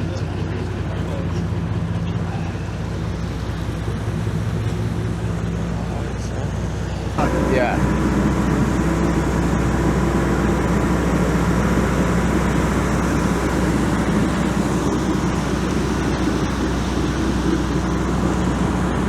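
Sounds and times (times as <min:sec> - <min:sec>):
boat engine humming: 0:00.0 - 0:19.0
water rushing: 0:00.0 - 0:19.0.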